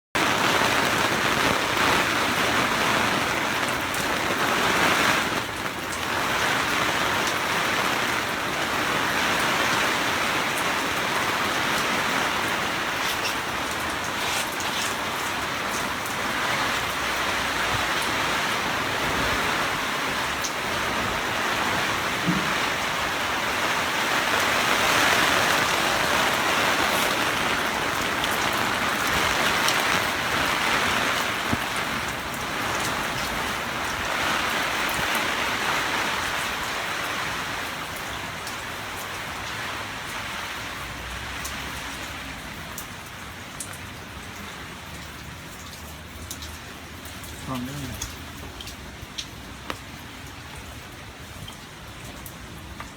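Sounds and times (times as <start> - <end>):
steady rain falling: 0.1 - 52.9.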